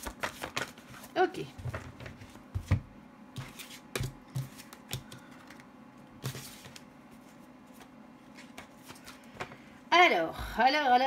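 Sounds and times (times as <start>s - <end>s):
cards being shuffled: 0.0s - 2.8s, 3.4s - 9.6s.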